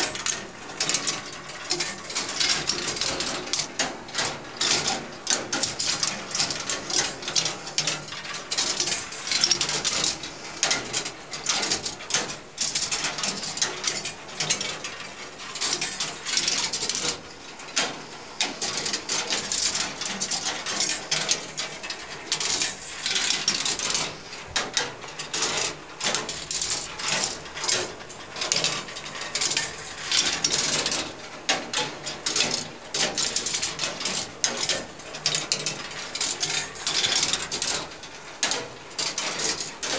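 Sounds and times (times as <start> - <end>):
ball machine clattering: 0.0 - 39.9.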